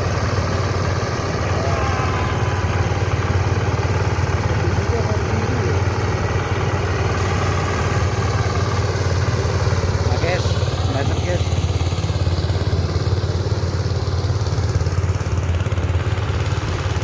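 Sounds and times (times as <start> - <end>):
engine drone: 0.0 - 17.0
threshing drum whirring: 0.0 - 17.0.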